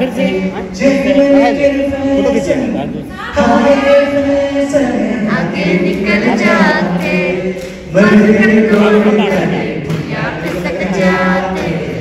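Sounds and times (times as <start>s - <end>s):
men singing into microphones: 0.0s - 12.0s.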